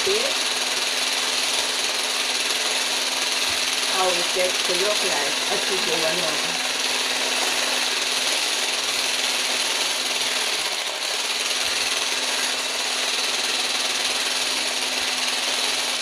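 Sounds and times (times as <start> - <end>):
electric whisk humming: 0.0 - 16.0.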